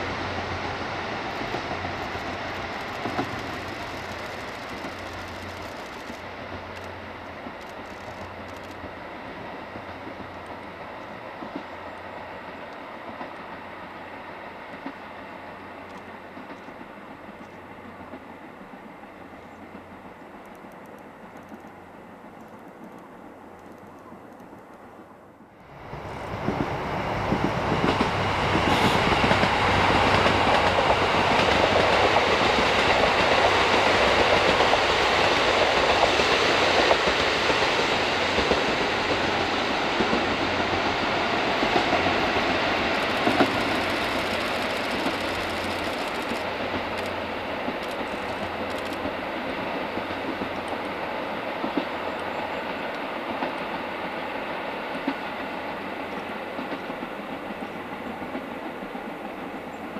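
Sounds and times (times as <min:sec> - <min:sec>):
train wheels clacking: 0:00.0 - 0:13.7, 0:14.5 - 0:18.4, 0:26.0 - 0:59.9
diesel train passing: 0:00.0 - 0:59.9.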